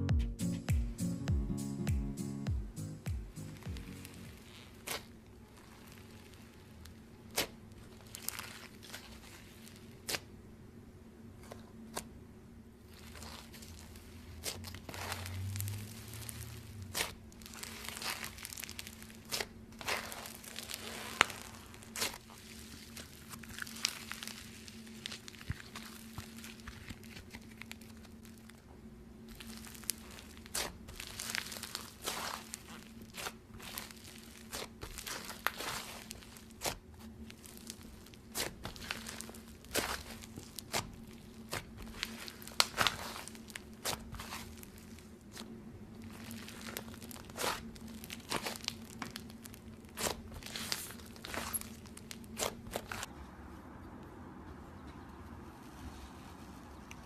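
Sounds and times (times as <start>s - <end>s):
slime squeezed by hand crackling: 3.5s - 10.3s, 12.9s - 28.6s, 29.3s - 45.5s, 46.1s - 53.1s.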